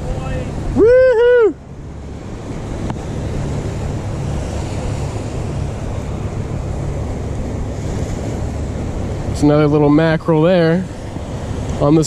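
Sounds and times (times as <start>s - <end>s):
surf on rocks: 0.0s - 12.0s
wind buffeting microphone: 0.0s - 12.0s.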